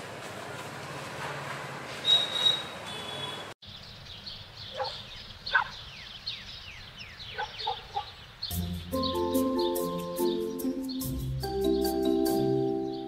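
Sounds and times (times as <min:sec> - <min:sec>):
birds calling: 0:02.0 - 0:13.0.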